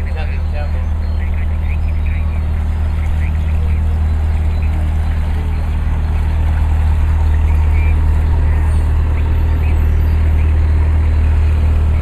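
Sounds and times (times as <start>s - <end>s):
boat engine low hum: 0.0s - 12.0s
propeller churning water: 0.0s - 12.0s.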